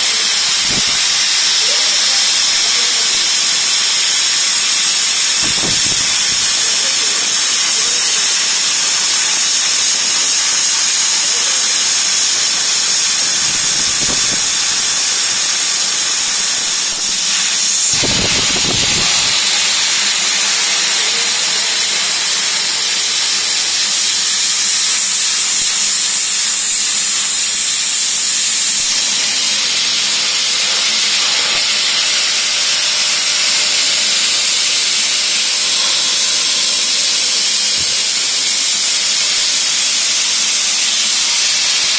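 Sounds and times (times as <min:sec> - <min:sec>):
plasma cutter hissing: 0:00.0 - 0:41.9.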